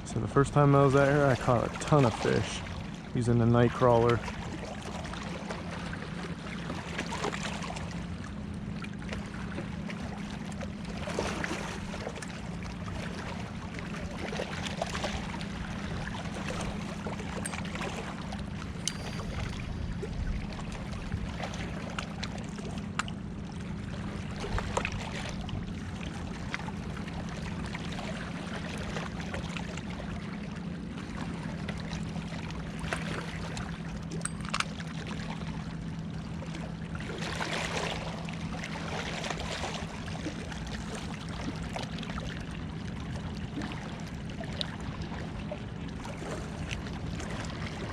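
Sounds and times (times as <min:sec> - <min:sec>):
lake water lapping and splashing: 0:00.0 - 0:47.9
steady low hum: 0:00.0 - 0:47.9.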